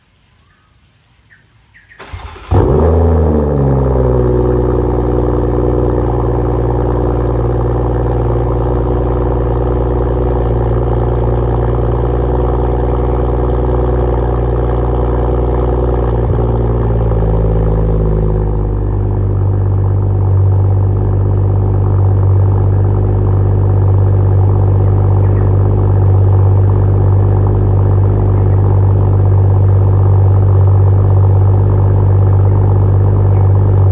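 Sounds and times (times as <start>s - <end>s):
car engine starting and idling: 1.9s - 33.9s.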